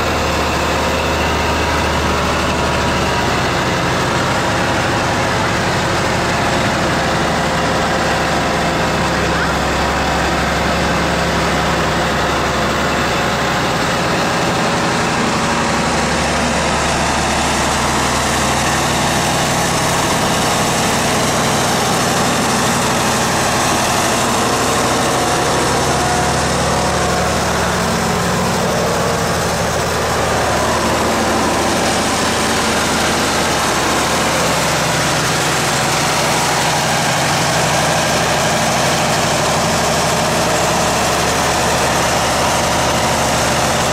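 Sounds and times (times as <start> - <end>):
bus diesel engine idling: 0.0 - 43.9.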